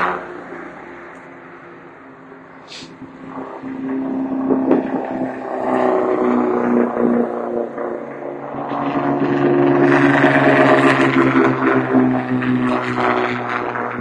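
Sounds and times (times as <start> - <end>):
race car engine passing: 0.0 - 14.0.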